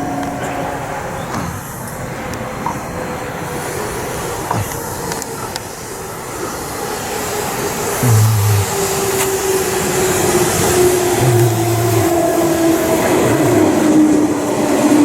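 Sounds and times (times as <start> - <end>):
rumble of train cars: 0.0 - 8.1, 8.7 - 15.0.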